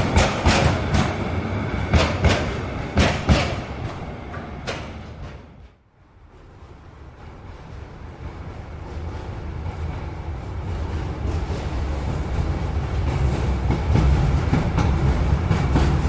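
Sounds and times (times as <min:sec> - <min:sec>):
train rumble: 0:00.0 - 0:16.0
train wheels clattering over rails: 0:00.0 - 0:16.0.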